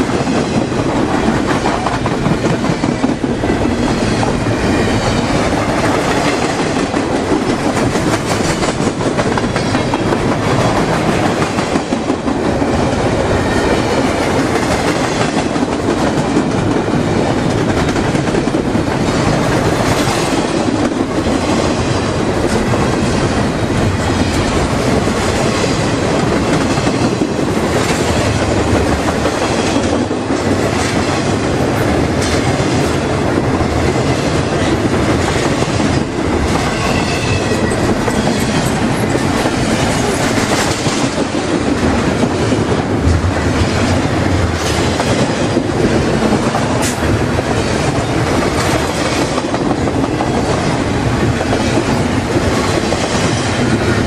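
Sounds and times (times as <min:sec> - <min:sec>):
freight train wheels clacking: 0:00.0 - 0:54.0.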